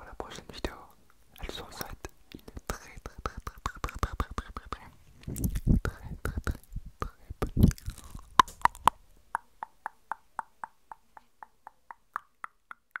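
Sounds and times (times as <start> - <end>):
hollow mouth clicks: 1.4 - 13.0
wet mouth smacking: 1.8 - 13.0.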